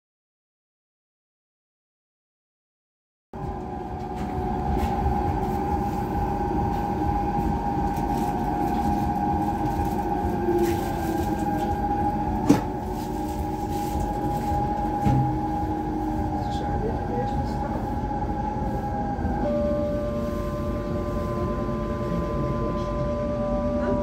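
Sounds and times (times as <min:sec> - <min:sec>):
high train whine: 0:03.4 - 0:24.0
train wheels rumbling on rail: 0:03.4 - 0:24.0.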